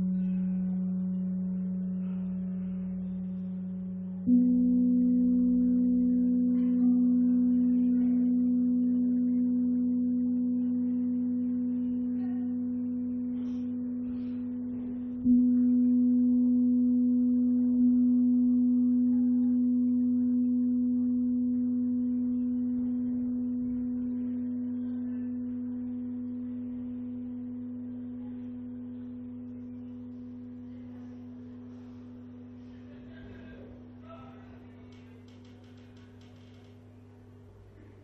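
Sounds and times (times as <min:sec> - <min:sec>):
low bell-like ringing tone: 0:00.0 - 0:34.6.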